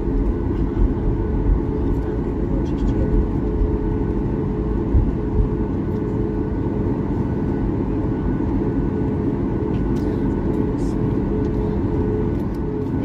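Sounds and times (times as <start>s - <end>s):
aircraft engine low rumble: 0.0s - 13.0s
faint steady hums: 0.0s - 13.0s.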